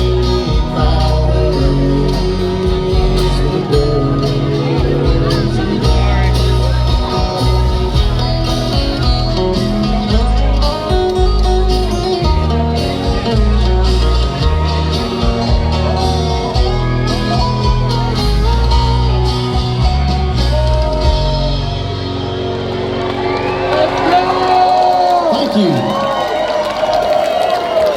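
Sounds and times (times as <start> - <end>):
heavy bass line: 0.0 - 24.5
live concert guitars: 0.0 - 27.9.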